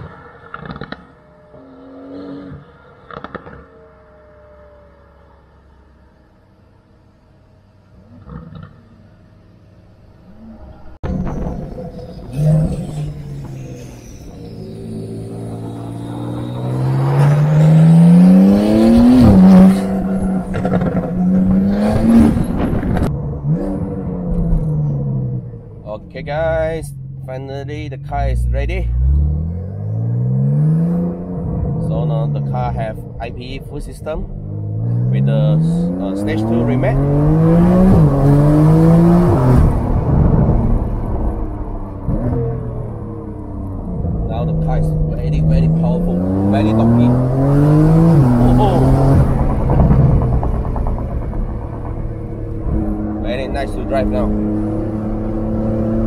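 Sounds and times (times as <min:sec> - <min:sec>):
sports car engine accelerating: 0:00.0 - 0:07.0, 0:07.8 - 0:56.0.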